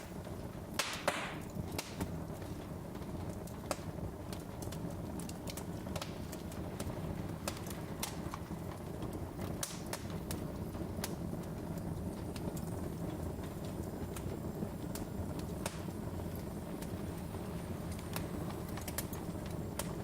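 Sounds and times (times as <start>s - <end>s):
rush of flame: 0.0s - 20.0s
wood fire crackling and popping: 0.0s - 20.0s.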